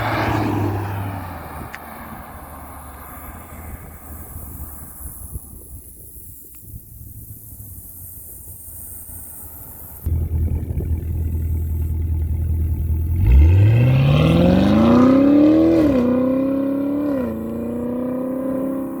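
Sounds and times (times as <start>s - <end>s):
car engine accelerating: 0.0s - 5.9s, 7.0s - 19.0s.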